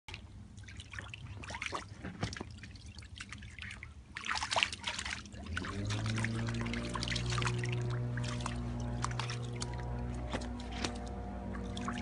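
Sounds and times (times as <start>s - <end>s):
puppy paws splashing water: 0.1s - 12.0s.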